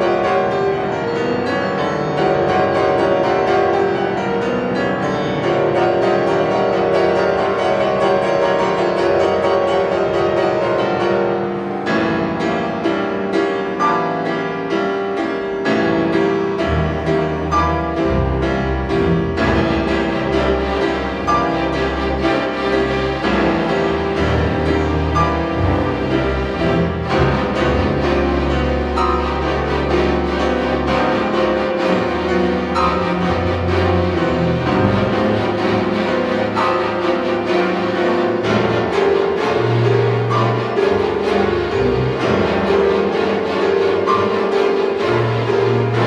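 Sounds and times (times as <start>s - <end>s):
piano: 0.0s - 46.0s
string orchestra playing: 0.0s - 46.0s.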